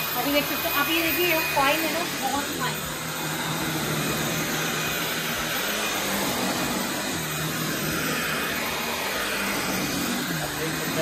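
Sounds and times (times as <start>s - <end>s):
stick vacuum running on carpet: 0.0s - 11.0s.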